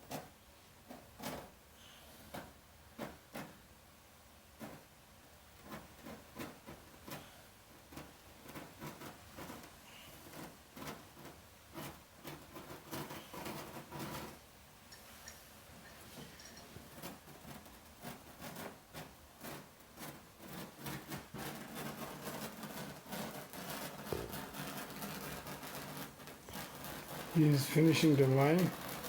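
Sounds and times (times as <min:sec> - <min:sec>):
hand tools tapping and scraping carpet: 0:00.0 - 0:03.8, 0:04.5 - 0:29.0.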